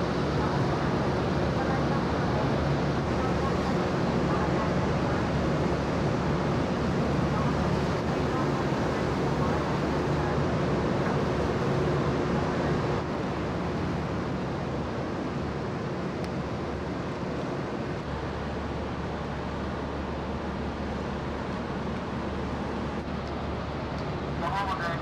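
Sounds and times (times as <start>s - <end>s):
ship engines droning: 0.0s - 25.0s.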